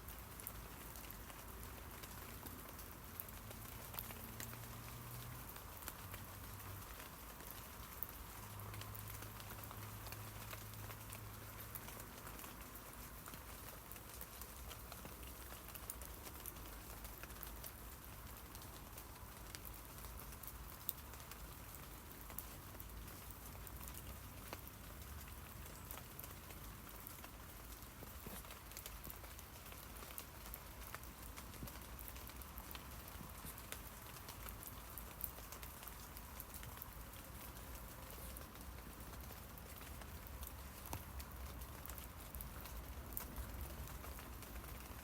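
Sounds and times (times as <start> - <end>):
rain falling on leaves: 0.0 - 45.0.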